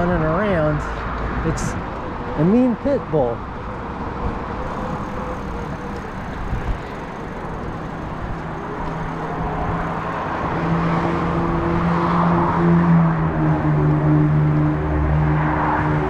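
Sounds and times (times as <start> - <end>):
road and traffic noise: 0.0 - 16.0
wind rushing on microphone: 0.5 - 2.4, 3.7 - 16.0.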